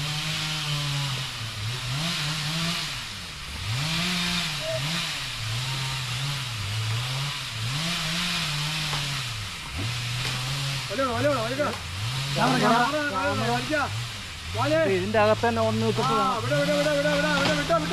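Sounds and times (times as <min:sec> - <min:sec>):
chainsaw engine revving: 0:00.0 - 0:17.9.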